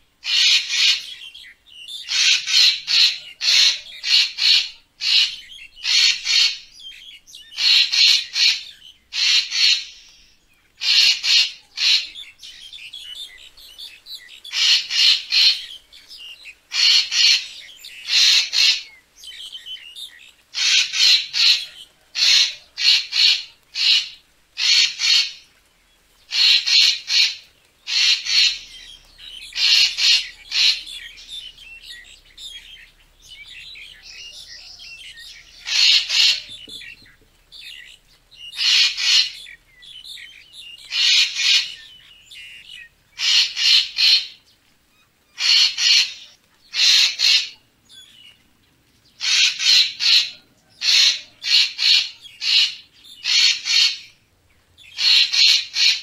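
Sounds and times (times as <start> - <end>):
faint bird chatter: 0.0 - 56.0
bird calling harsh notes: 0.2 - 25.5, 26.3 - 44.4, 45.1 - 47.6, 49.2 - 56.0.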